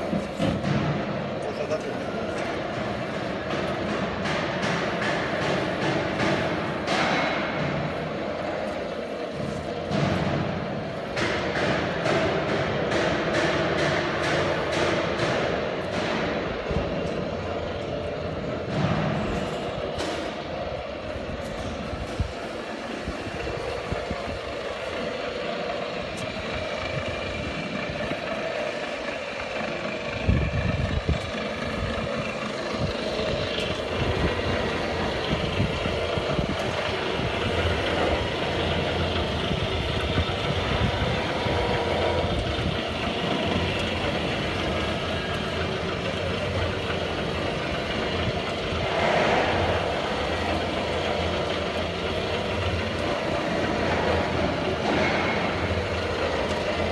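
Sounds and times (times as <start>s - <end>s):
deeper rumble: 0.0s - 56.9s
feed mixer machine hum: 0.0s - 56.9s.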